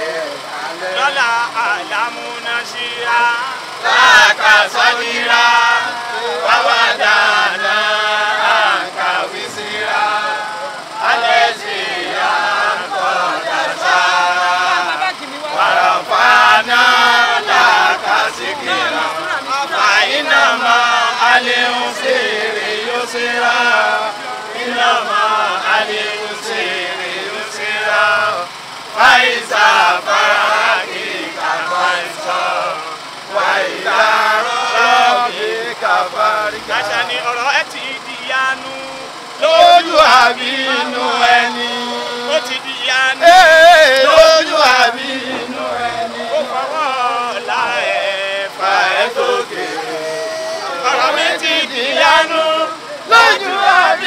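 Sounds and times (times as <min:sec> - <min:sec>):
men singing a chant: 0:00.0 - 0:54.0.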